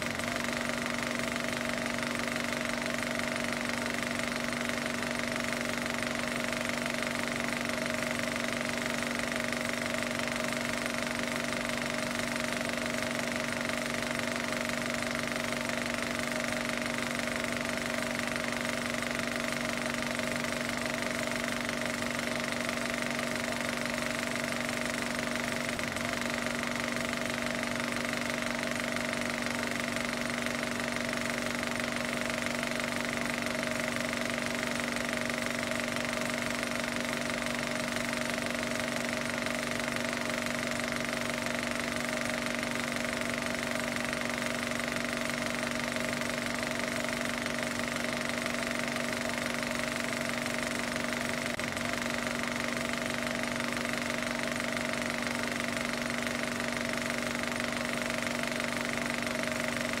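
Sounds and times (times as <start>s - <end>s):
constant machine hum: 0.0s - 60.0s
machine running with rattle: 0.0s - 60.0s.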